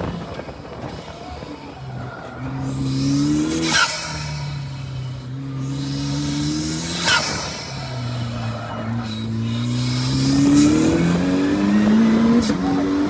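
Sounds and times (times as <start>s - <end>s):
turbocharged engine revving: 0.0s - 13.0s.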